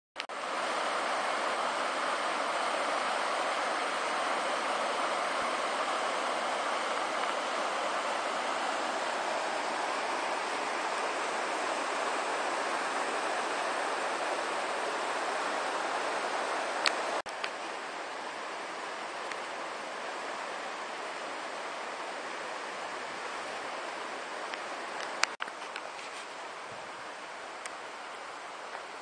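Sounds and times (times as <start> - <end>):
river rapids rushing: 0.3 - 25.3.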